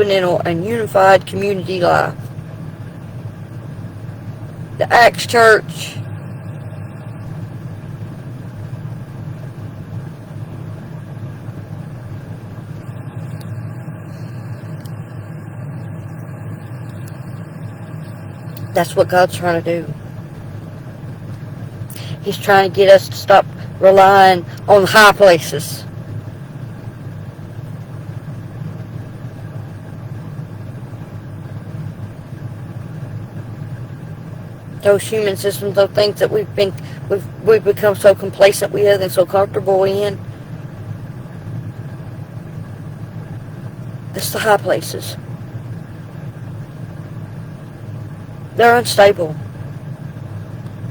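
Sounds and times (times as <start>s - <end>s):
low mechanical hum: 0.0s - 50.9s
steady low rumble: 0.0s - 50.9s.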